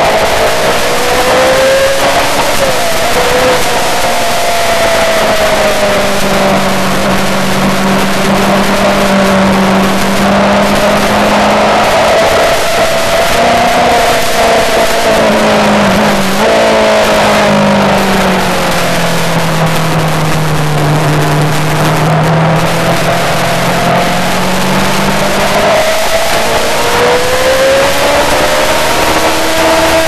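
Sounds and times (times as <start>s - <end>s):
motorcycle engine revving: 0.0s - 30.0s
wind rush: 0.0s - 30.0s.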